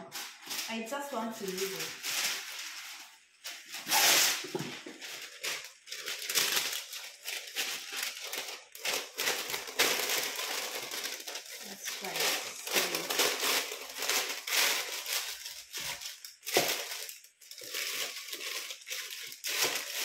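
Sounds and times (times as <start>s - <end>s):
baking paper rustling: 0.0s - 20.0s.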